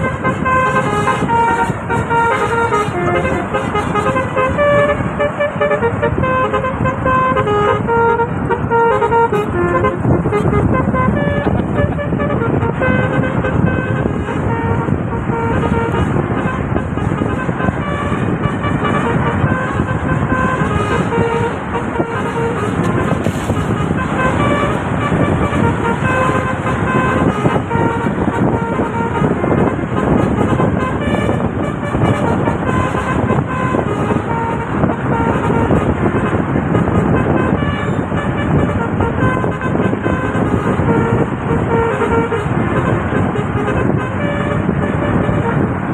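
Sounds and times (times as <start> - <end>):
dense low rumble: 0.0 - 45.8
multi-tone air horn playing a tune: 0.0 - 45.9.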